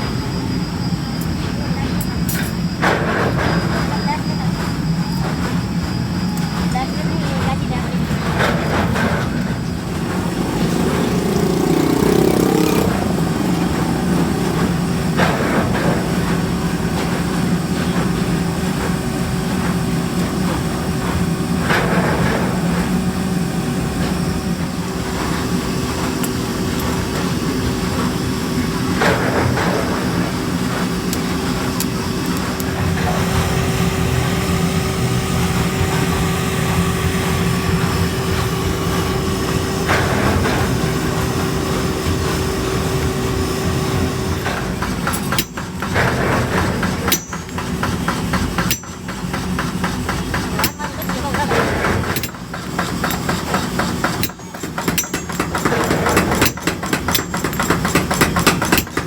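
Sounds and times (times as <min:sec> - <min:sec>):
workshop machinery humming: 0:00.0 - 0:59.0.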